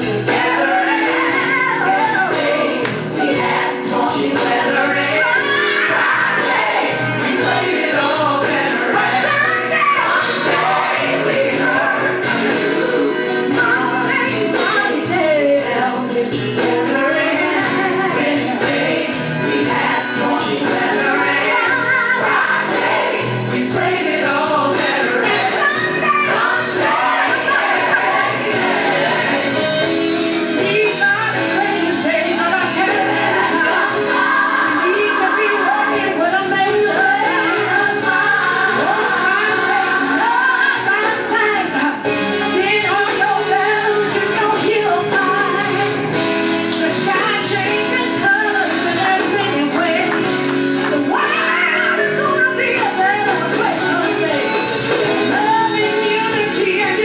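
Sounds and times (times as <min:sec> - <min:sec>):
gospel choir singing: 0:00.0 - 0:57.0.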